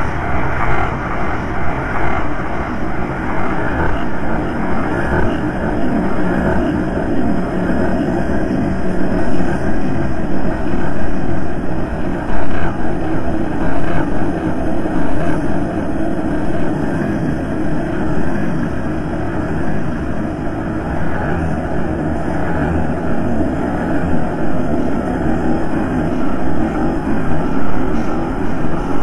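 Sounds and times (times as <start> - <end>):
dark ambient drone: 0.0 - 29.0.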